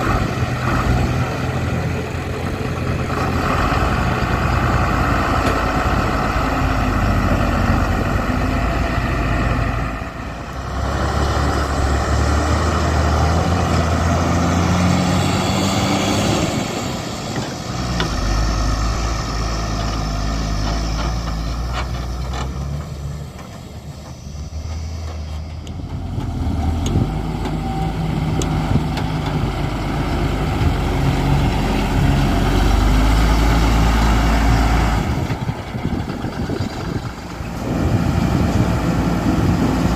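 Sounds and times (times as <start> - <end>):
heavy diesel engine working: 0.0 - 39.9.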